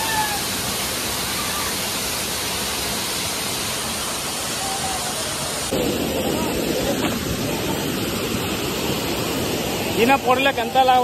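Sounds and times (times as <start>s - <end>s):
waterfall pouring onto rock: 0.0s - 11.0s.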